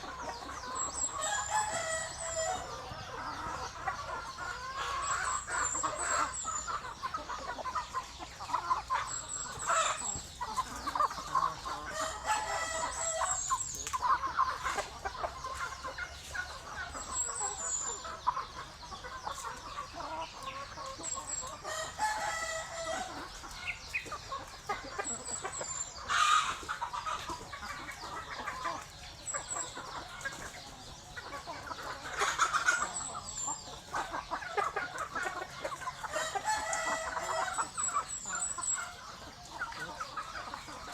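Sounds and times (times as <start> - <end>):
chickens clucking: 0.0 - 40.9
roosters crowing: 0.0 - 40.9.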